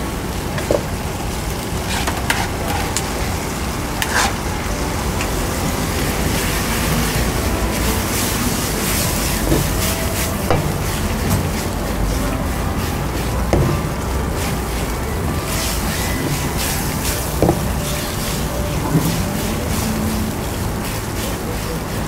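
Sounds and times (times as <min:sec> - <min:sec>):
food sizzling in pan: 0:00.0 - 0:22.0.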